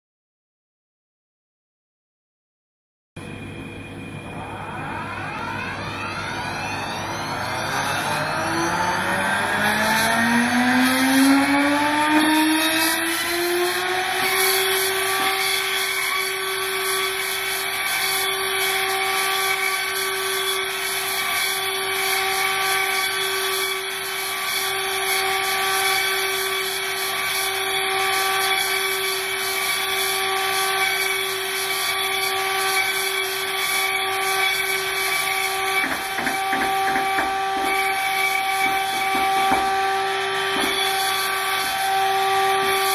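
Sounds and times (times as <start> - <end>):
spindle whine: 3.2 - 42.9.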